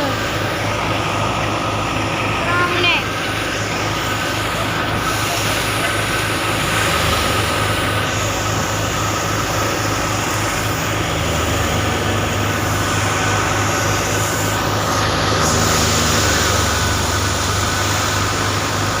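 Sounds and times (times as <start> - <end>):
farm machinery engine humming: 0.0 - 19.0.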